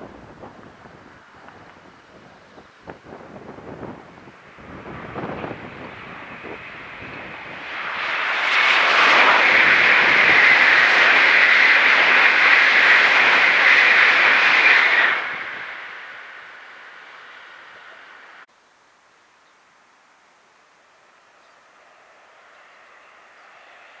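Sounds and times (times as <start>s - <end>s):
bullet train passing at speed: 0.0s - 18.5s, 21.1s - 24.0s.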